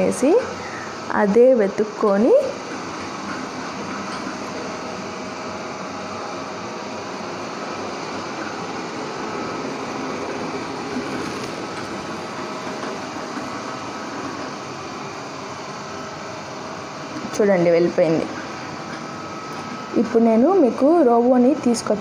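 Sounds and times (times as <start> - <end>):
robot vacuum cleaner running: 0.0 - 22.0.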